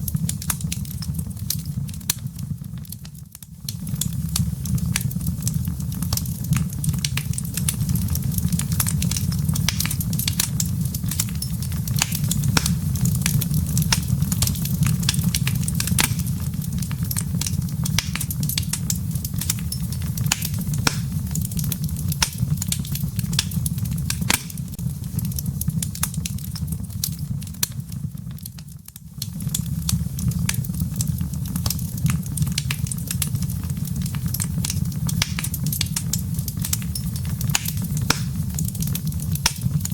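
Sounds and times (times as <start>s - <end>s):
fireplace embers crackling: 0.0s - 39.9s.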